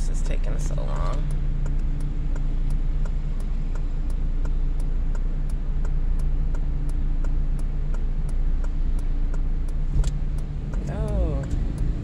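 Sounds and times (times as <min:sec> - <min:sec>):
car engine idling: 0:00.0 - 0:12.0
turn signal ticking: 0:00.0 - 0:12.0.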